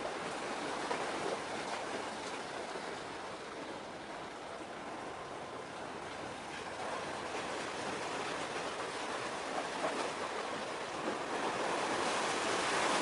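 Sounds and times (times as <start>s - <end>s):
rushing harbourside ambience: 0.0s - 13.0s.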